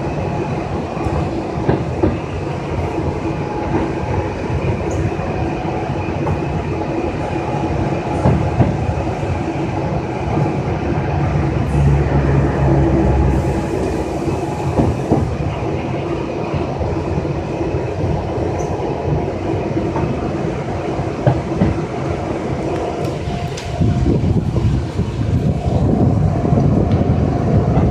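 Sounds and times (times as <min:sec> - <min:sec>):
steady train hum: 0:00.0 - 0:27.9
train wheels rumbling on rail: 0:00.0 - 0:27.9.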